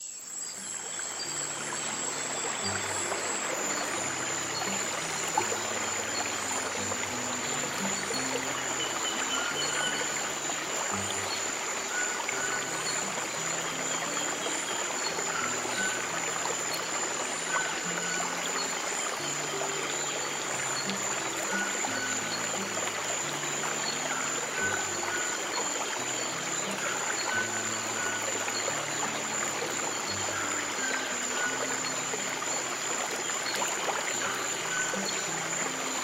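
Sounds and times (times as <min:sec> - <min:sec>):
flowing stream water: 0:00.0 - 0:36.0.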